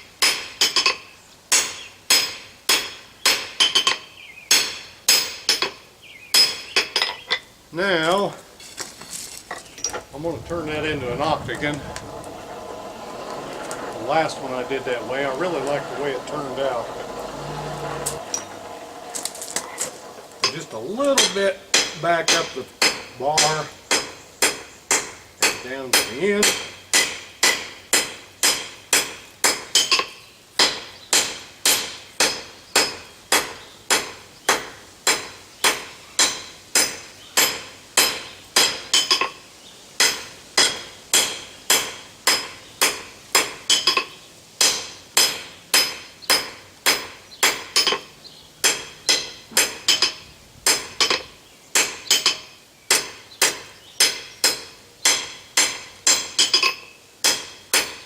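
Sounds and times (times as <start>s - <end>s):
hammer striking hot steel on anvil: 0.2s - 5.8s, 13.4s - 39.4s, 40.0s - 58.0s.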